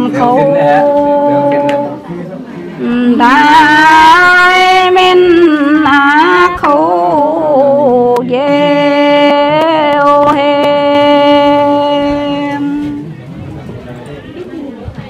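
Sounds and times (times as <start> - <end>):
women singing in unison: 0.0 - 2.1, 2.8 - 13.0.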